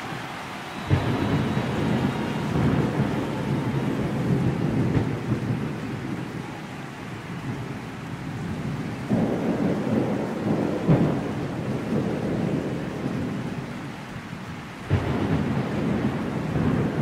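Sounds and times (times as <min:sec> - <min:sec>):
rolling thunder: 0:00.0 - 0:13.8, 0:14.8 - 0:17.0
steady rain: 0:00.0 - 0:17.0.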